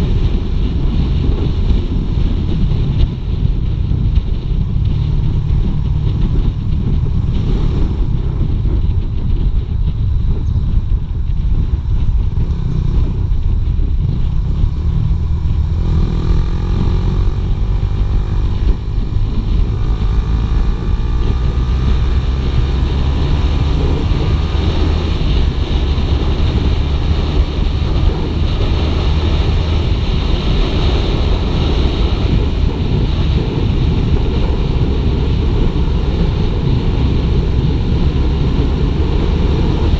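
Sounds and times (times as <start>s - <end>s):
motorcycle engine droning: 0.0s - 39.9s
wind noise on microphone: 0.0s - 39.9s.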